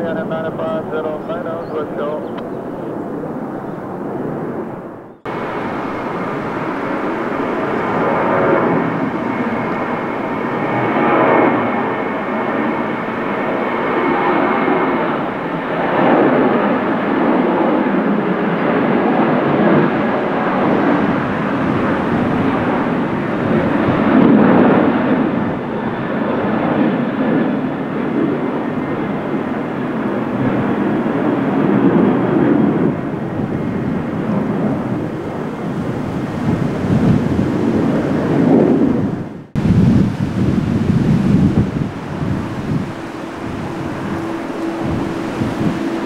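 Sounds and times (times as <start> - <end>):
jet engines rumbling: 0.0 - 46.0.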